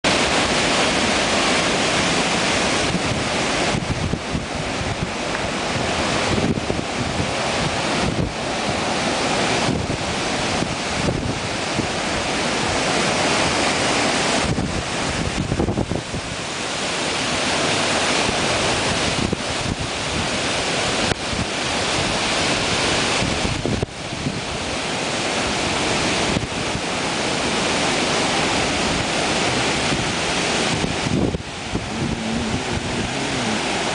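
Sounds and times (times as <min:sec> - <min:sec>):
strong wind gusting: 0:00.0 - 0:33.9
wind buffeting microphone: 0:00.1 - 0:33.9.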